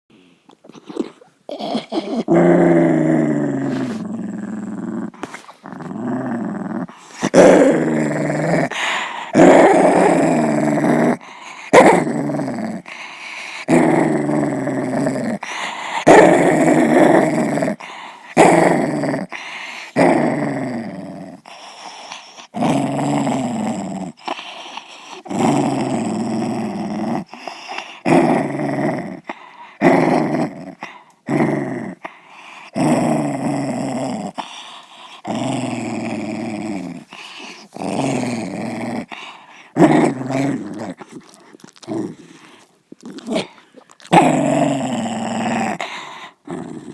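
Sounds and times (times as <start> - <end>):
dog growling: 0.7 - 46.9.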